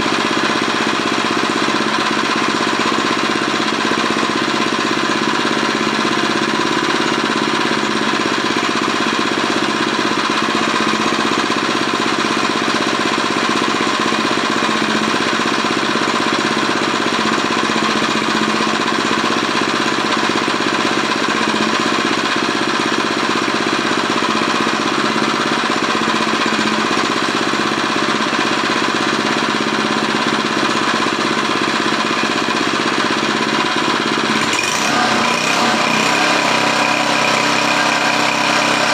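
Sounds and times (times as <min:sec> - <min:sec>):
small gasoline engine chattering: 0:00.0 - 0:38.9.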